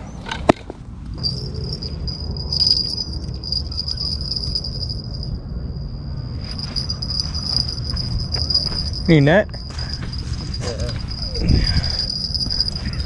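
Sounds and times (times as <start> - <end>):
low rumble: 0.7 - 13.0
crickets trilling: 1.1 - 13.0.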